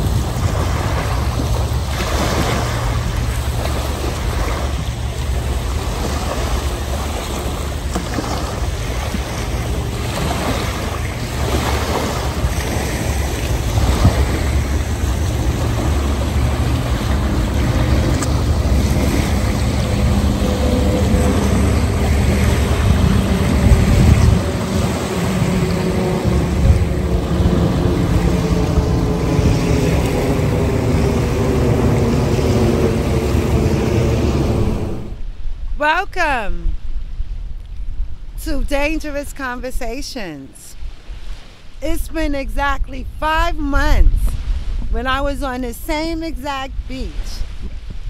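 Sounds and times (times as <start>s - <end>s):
small waves lapping on shore: 0.0s - 48.0s
wind rumble on microphone: 0.0s - 48.0s.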